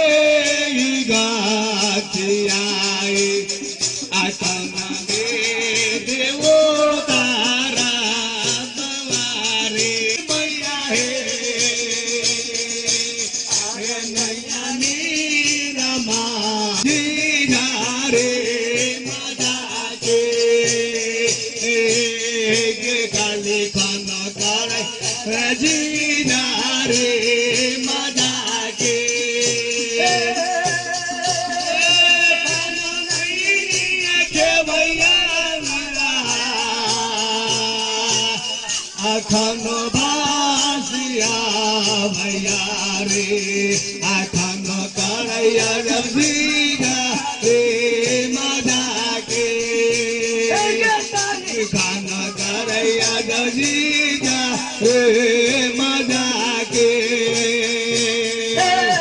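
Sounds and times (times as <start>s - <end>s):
barrel hand drum beat: 0.0s - 59.0s
jingling percussion: 0.0s - 59.0s.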